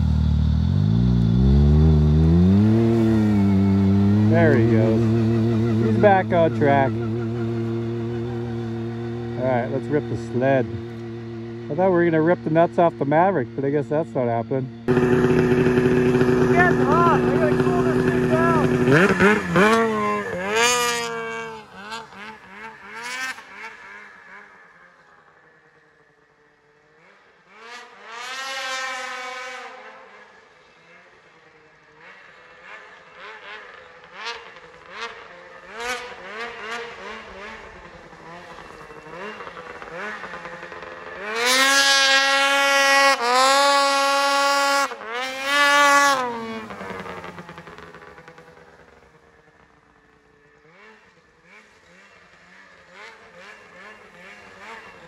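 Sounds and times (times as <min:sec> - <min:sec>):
snowmobile engine revving: 0:00.0 - 0:49.8, 0:50.5 - 0:55.0.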